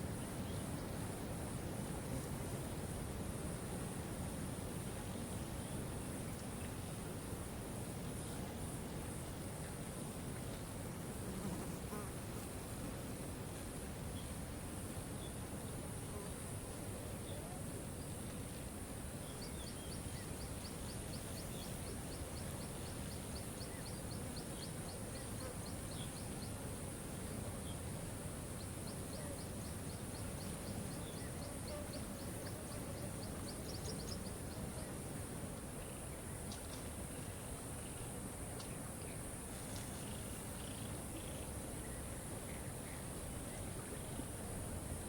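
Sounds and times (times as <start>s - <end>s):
high steady hiss: 0.0s - 45.0s.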